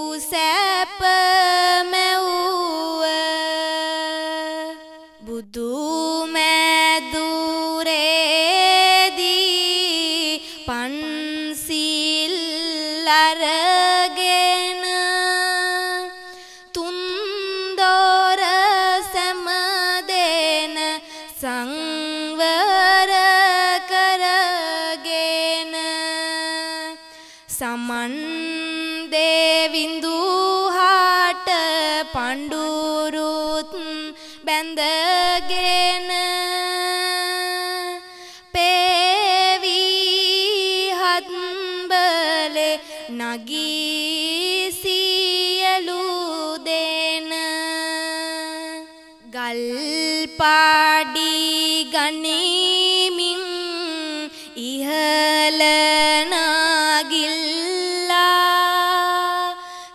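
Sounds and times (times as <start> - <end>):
person chanting a verse: 0.0 - 59.7.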